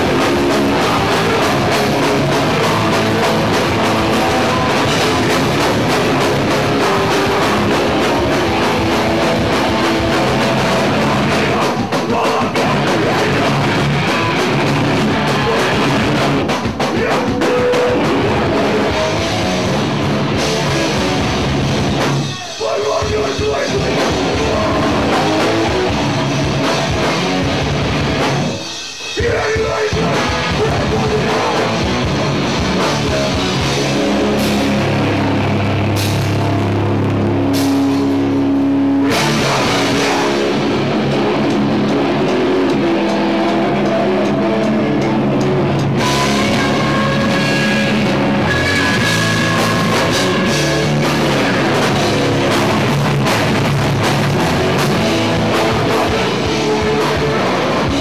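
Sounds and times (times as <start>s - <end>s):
vocals: 0.0s - 27.5s, 28.6s - 36.4s, 39.0s - 58.0s
distorted electric guitar: 0.0s - 58.0s
drum kit: 0.0s - 58.0s.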